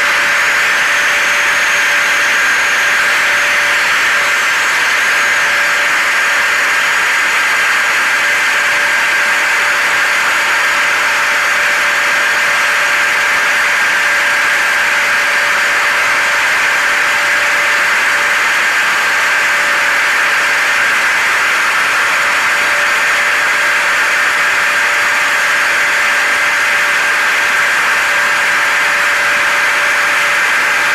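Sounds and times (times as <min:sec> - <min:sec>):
hair dryer: 0:00.0 - 0:30.9
vacuum cleaner running: 0:00.0 - 0:30.9.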